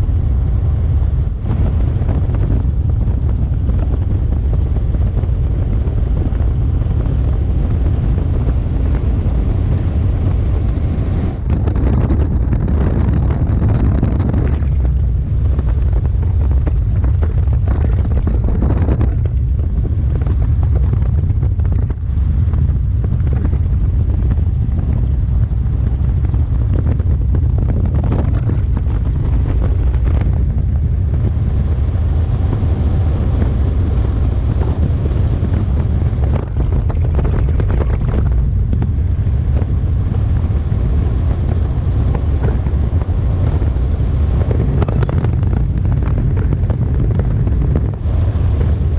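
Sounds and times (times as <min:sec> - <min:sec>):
helicopter engine and rotor rumble: 0:00.0 - 0:48.9
wind buffeting microphone: 0:00.0 - 0:48.9.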